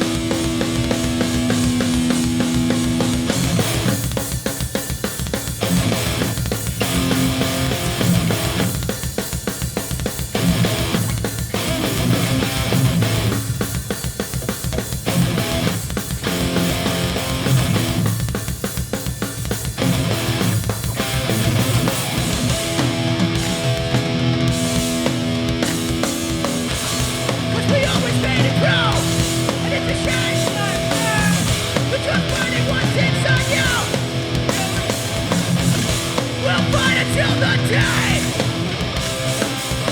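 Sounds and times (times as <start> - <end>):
bass guitar: 0.0 - 39.9
distorted electric guitars: 0.0 - 39.9
drums: 0.0 - 39.9.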